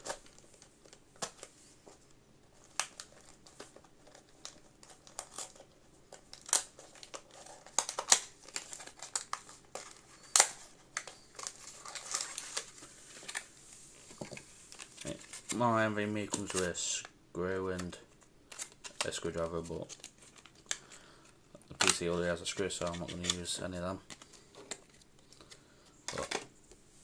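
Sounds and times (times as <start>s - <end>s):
packaging crinkling and rustling: 0.0s - 17.0s, 17.6s - 26.5s.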